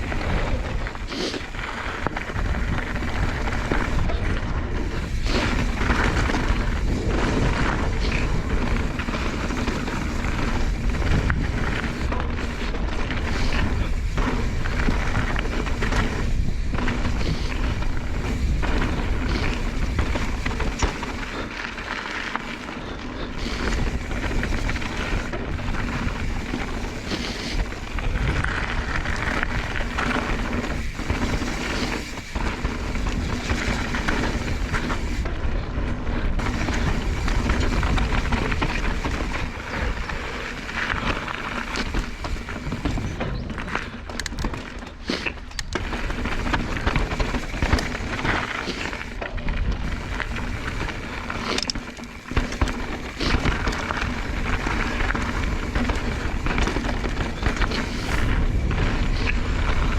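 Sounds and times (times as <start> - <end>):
bike knocking and rattling: 0.0 - 59.9
tyres on dirt trail: 0.0 - 59.9
wind rumble on microphone: 0.0 - 59.9.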